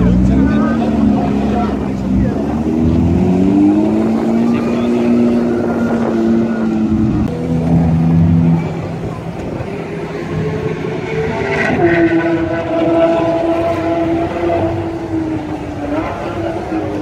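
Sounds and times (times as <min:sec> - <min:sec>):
sports car engines at low revs: 0:00.0 - 0:17.0.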